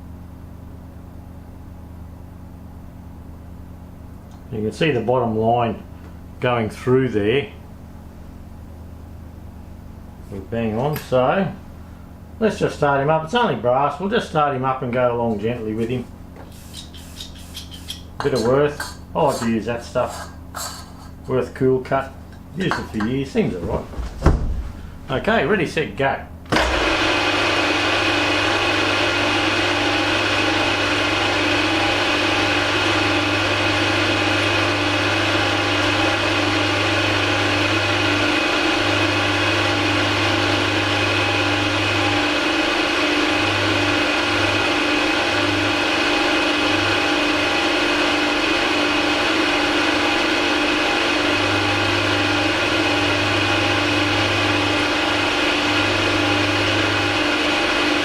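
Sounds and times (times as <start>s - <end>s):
machine tool whining hum: 0.0s - 58.0s.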